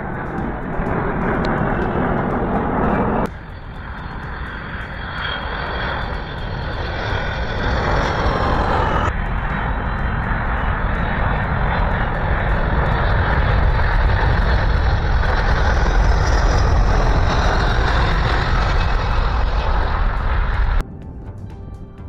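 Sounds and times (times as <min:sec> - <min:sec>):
loud jet rumble: 0:00.0 - 0:21.7.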